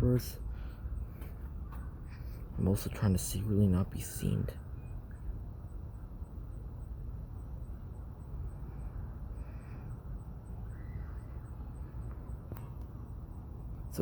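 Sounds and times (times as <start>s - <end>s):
faint high insect chirp: 0.0s - 14.0s
steady low rumble: 0.0s - 14.0s.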